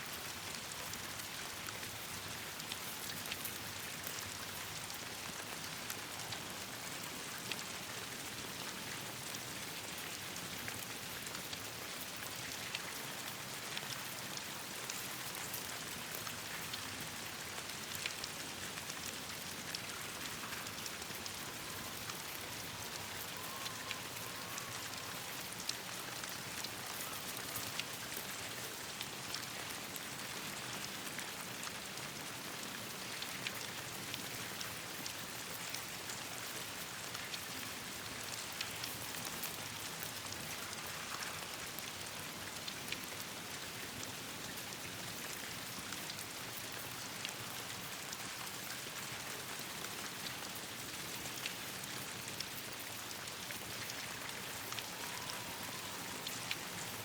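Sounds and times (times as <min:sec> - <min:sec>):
rain falling: 0:00.1 - 0:57.0.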